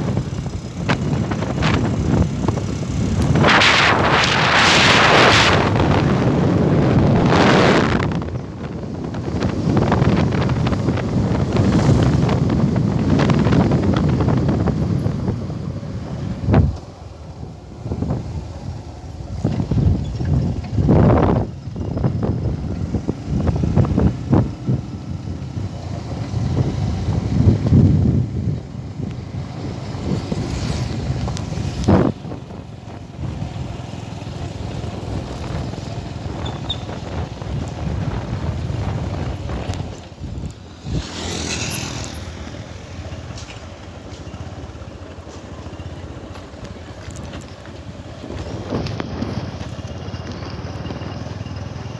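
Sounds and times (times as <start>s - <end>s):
wind buffeting microphone: 0.0s - 51.5s
motorcycle engine running: 0.0s - 51.9s.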